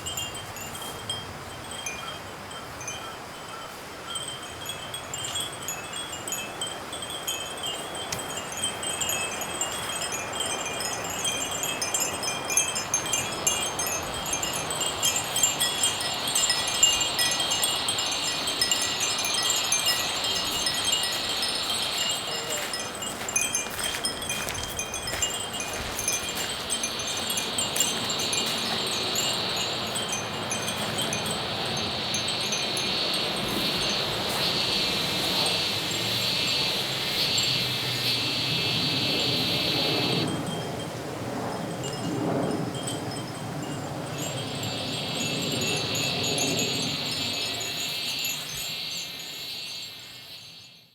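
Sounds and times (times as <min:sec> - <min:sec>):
wind chimes tinkling: 0:00.0 - 0:37.8, 0:39.9 - 0:50.9
insect trill: 0:00.0 - 0:50.9.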